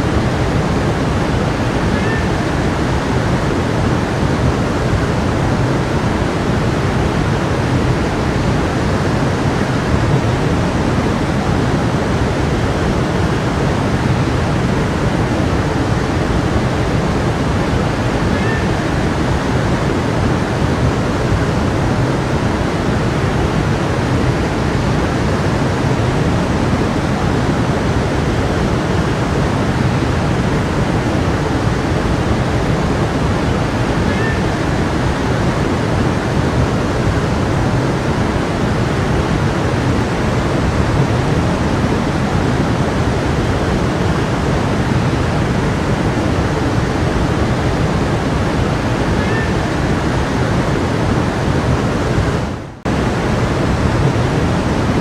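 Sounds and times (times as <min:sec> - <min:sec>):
stream water rushing over rocks: 0:00.0 - 0:55.0.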